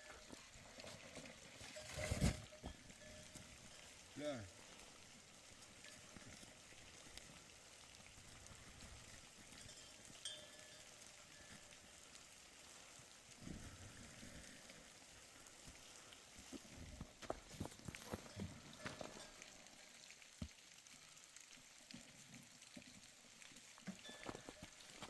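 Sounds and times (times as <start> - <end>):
faint hiss: 0.0 - 25.0.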